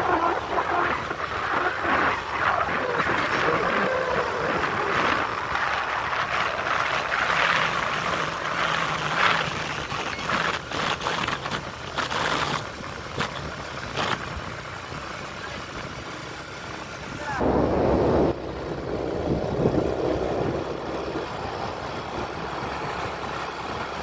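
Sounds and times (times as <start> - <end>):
road noise: 0.0 - 24.0
vehicle engine hum: 0.0 - 24.0.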